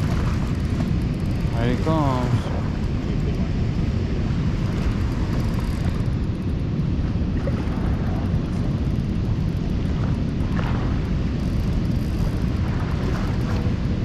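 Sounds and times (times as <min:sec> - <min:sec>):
distant roar of water: 0:00.0 - 0:14.0
wind buffeting microphone: 0:00.0 - 0:14.0.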